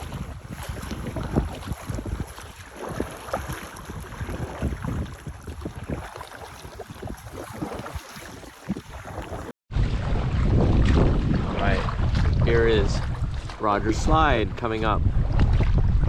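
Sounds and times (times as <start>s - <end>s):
water splashing and lapping: 0.0s - 16.0s
wind buffeting microphone: 0.0s - 16.0s.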